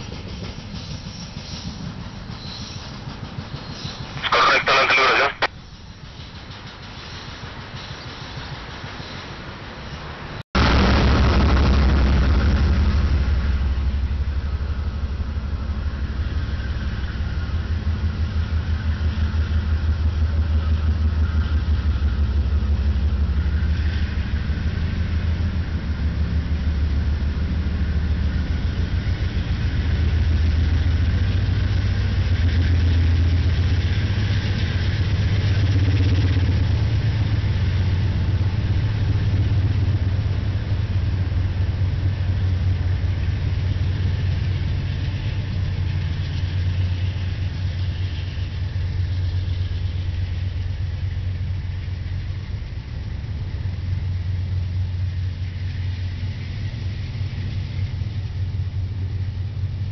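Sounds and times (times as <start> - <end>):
diesel locomotive engines rumbling: 0.0 - 59.9.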